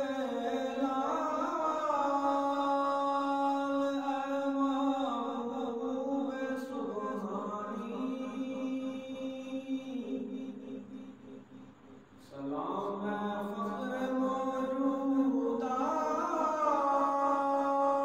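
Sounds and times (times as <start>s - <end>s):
man singing unaccompanied: 0.0s - 11.5s, 12.2s - 18.0s.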